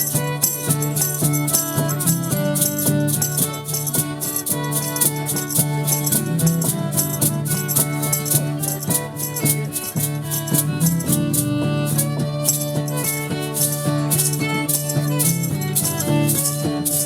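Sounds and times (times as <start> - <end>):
harmonica jig melody: 0.0 - 17.0
shaker beat: 0.0 - 17.0.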